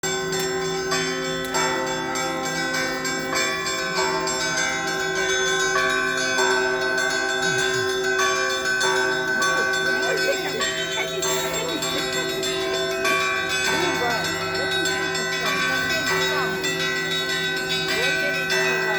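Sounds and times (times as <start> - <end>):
church bells pealing: 0.0 - 18.9.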